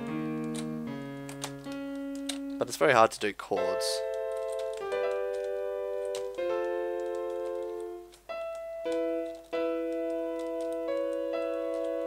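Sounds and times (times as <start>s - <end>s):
keyboard keys clicking: 0.0s - 12.0s
piano chords: 0.0s - 12.0s.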